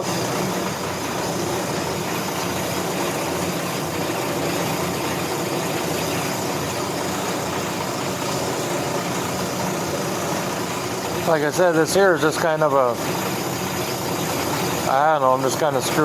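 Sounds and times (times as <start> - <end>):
brake lathe whirring: 0.0 - 16.0.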